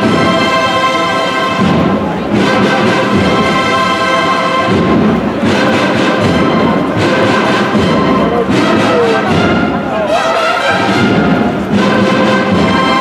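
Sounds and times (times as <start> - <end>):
brass band playing a march: 0.0 - 13.0
drums: 0.0 - 13.0.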